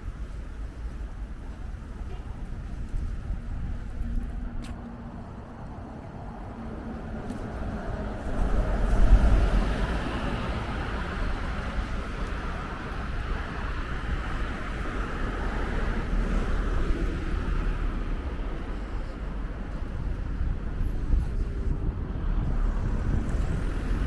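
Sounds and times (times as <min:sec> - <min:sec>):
street traffic going by: 0:00.0 - 0:24.0
wind buffeting the microphone: 0:00.0 - 0:24.0.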